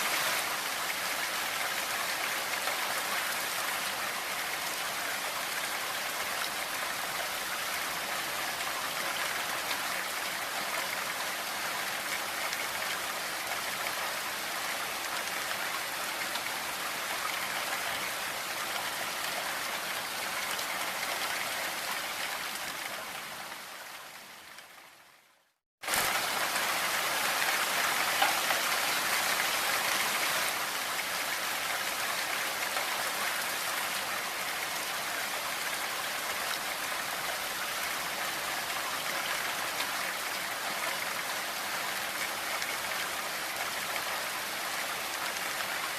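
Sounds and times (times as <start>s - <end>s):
rain hiss: 0.0s - 45.9s.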